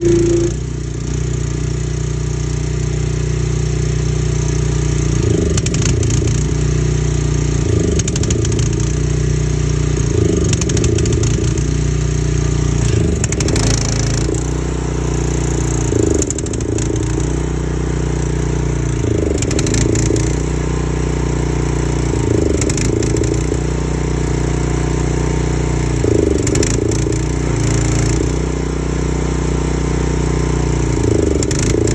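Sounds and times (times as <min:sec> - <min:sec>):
pressure washer engine idling roughly: 0:00.0 - 0:31.9.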